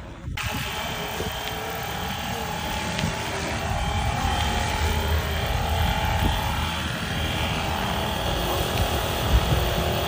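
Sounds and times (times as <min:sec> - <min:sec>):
model helicopter rotor whine: 0:00.0 - 0:10.0.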